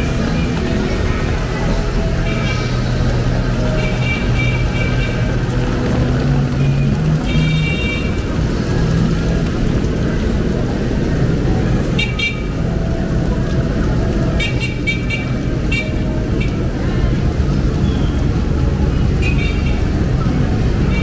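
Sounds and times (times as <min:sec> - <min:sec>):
heavy rain: 0:00.0 - 0:21.0
street traffic: 0:00.0 - 0:21.0.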